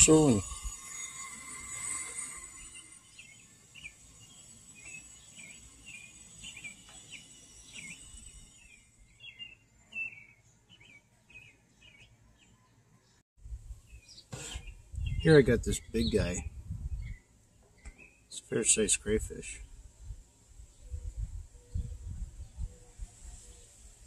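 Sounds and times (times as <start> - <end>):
birds chirping: 0.0 - 13.2, 13.8 - 19.9.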